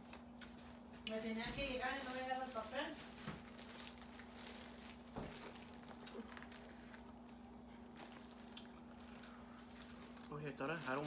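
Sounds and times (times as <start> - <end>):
steady low hum: 0.0 - 11.0
plastic bags crinkling: 0.2 - 11.0.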